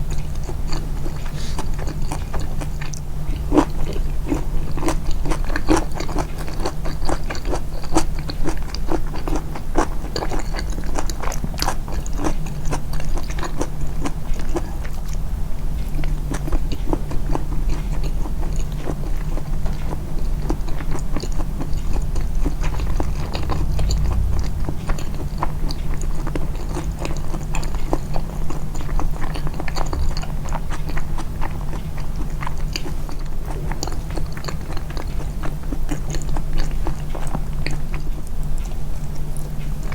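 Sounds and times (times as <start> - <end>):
chewing and biting: 0.0 - 39.9
steady low hum: 0.0 - 39.9.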